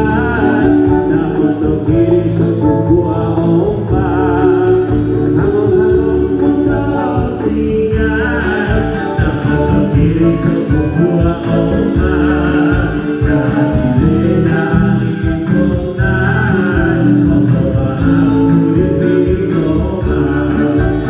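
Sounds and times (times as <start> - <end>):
electric guitars: 0.0 - 21.0
heavy bass line: 0.0 - 21.0
keyboard: 0.0 - 21.0
man singing: 0.0 - 21.0.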